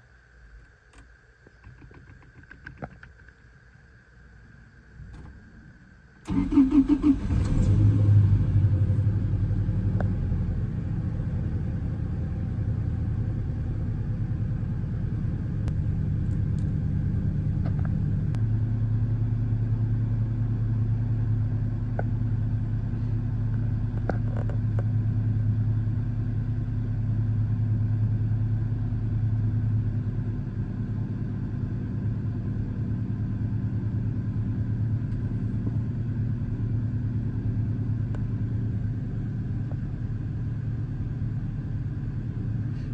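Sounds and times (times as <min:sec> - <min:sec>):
engine idling: 0:06.3 - 0:42.9.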